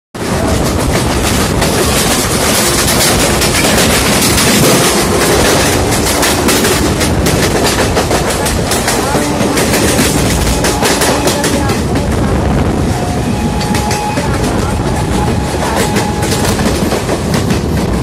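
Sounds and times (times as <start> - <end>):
train wheels rushing on rail: 0.2 - 18.0.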